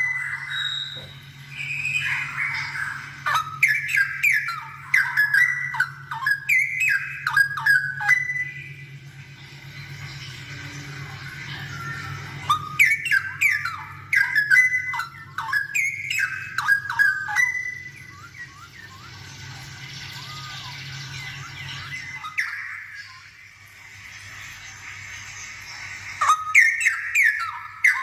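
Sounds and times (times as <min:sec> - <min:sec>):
bulbul singing whistled phrases: 0:00.0 - 0:24.6, 0:25.6 - 0:28.0
steady low hum: 0:00.0 - 0:27.8.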